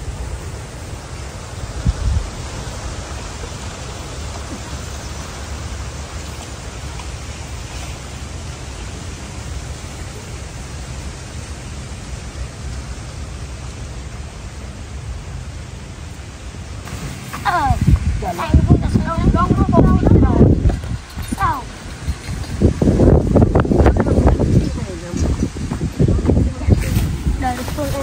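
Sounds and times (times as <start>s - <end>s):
wind blowing on microphone: 0.0s - 28.0s.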